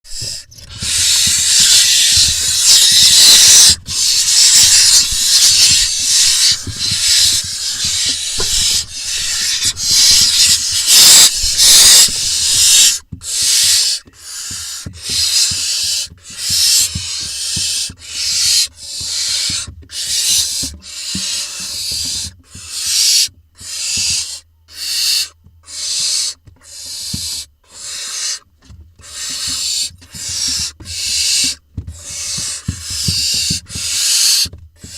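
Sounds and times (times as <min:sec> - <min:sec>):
owl nestlings hissing begging calls: 0:00.1 - 0:28.4, 0:29.0 - 0:34.9.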